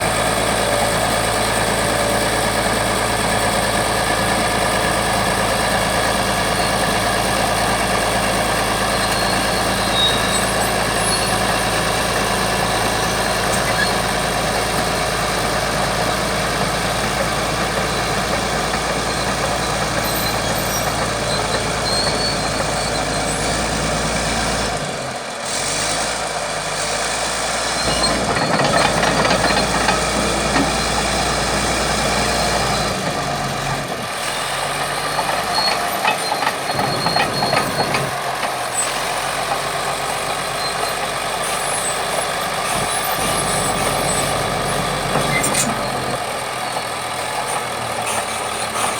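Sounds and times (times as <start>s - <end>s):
bulldozer diesel engines running: 0.0s - 48.9s.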